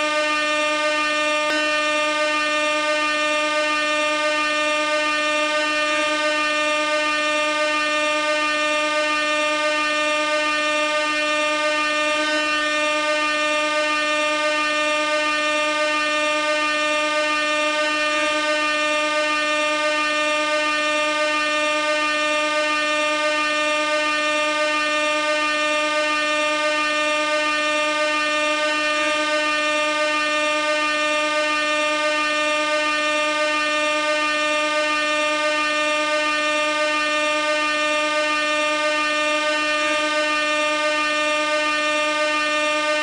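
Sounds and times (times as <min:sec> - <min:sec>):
air horn blast: 0:00.0 - 0:43.0.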